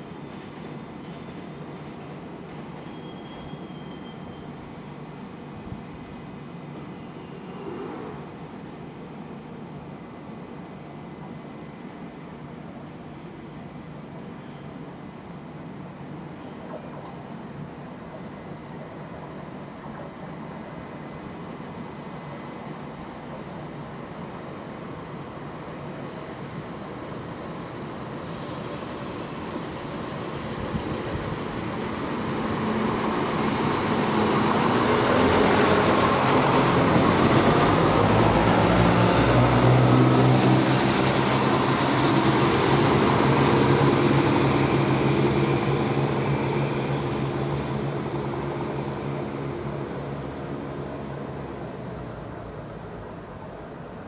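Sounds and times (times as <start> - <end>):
diesel train engines running: 0.0 - 54.0.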